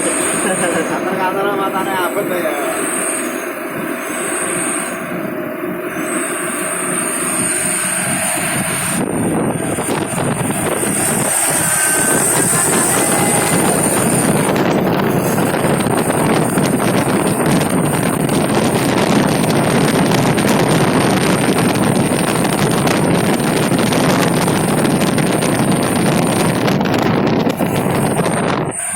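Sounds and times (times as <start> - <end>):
vehicle engine and road noise: 0.0 - 28.9
wind on microphone: 0.0 - 28.9.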